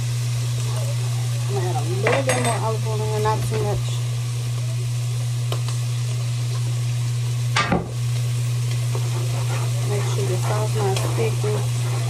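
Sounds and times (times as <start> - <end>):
food sizzling in a frying pan: 0.0 - 12.0
steady low hum: 0.0 - 12.0.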